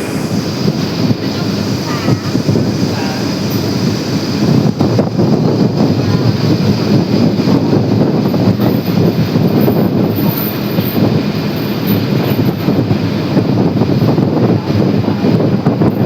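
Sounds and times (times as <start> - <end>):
moving vehicle rumbling: 0.0 - 16.0
wind buffeting microphone: 0.0 - 16.0.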